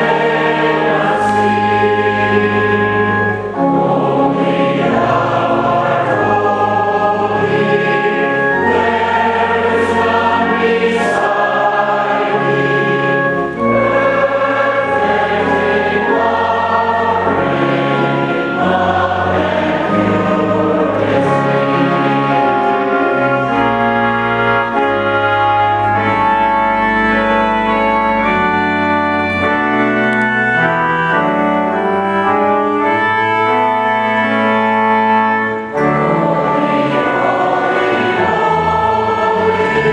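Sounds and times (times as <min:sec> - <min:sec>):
choir singing a hymn: 0:00.0 - 0:39.9
organ holding low notes: 0:00.0 - 0:39.9.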